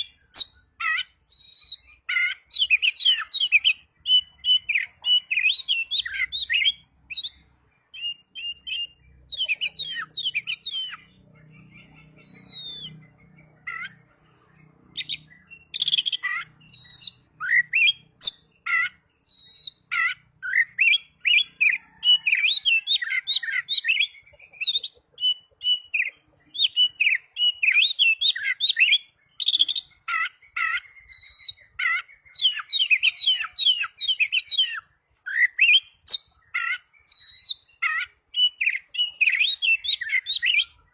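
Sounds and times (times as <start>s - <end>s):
bird singing sharp chirps: 0.0s - 40.9s.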